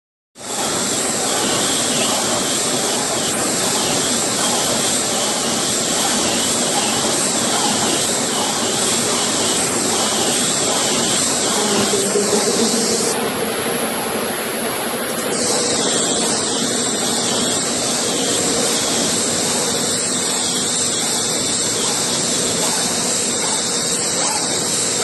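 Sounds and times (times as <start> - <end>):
welding machine mechanical hiss: 0.4 - 25.0.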